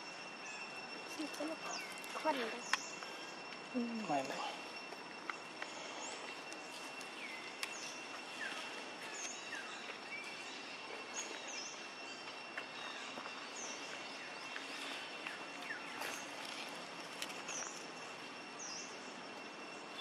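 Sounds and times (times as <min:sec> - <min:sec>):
bird chirps: 0:00.0 - 0:20.0
faint high whine: 0:00.0 - 0:20.0
steady hiss: 0:00.0 - 0:20.0.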